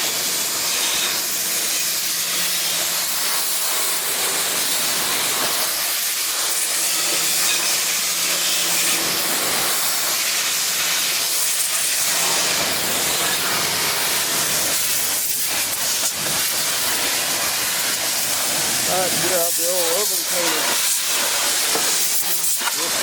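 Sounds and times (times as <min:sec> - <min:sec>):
pressure washer jet hissing: 0:00.0 - 0:23.0.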